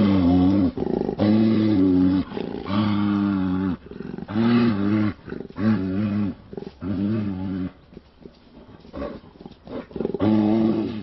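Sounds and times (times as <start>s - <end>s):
bear roaring: 0.0s - 7.8s, 9.0s - 11.0s.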